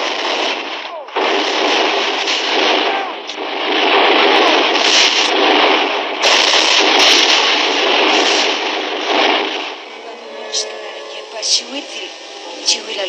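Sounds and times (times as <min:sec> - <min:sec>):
cannon blasts: 0:00.0 - 0:10.8
gunshots crackling: 0:00.0 - 0:11.4.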